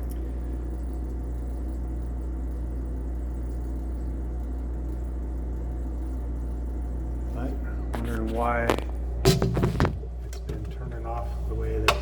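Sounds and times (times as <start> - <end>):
refrigerator humming: 0.0 - 12.0.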